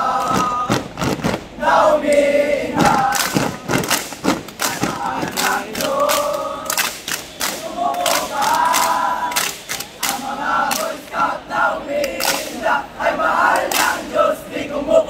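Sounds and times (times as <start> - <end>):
group shouting and chanting: 0.0 - 15.0.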